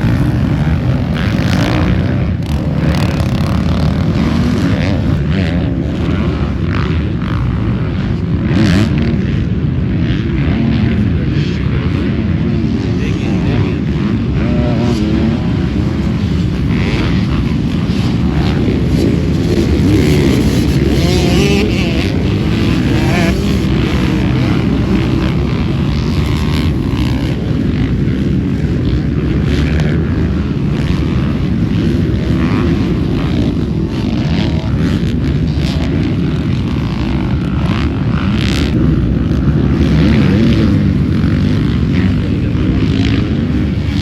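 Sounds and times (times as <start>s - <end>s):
dirt bike engines racing: 0.0s - 44.0s.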